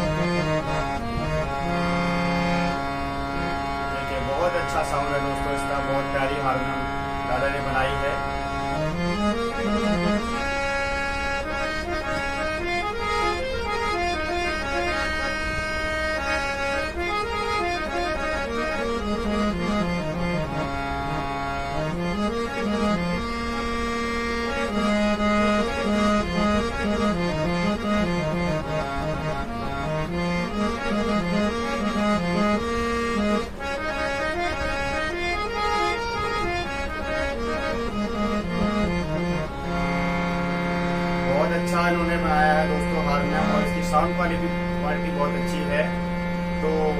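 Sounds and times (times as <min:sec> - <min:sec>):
harmonium melody over drone: 0:00.0 - 0:46.9.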